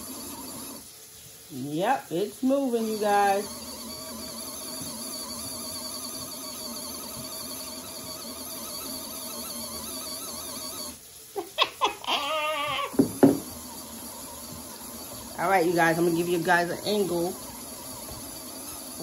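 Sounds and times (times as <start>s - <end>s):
washing machine motor hum: 0.0s - 19.0s
water pouring into tub: 0.0s - 19.0s.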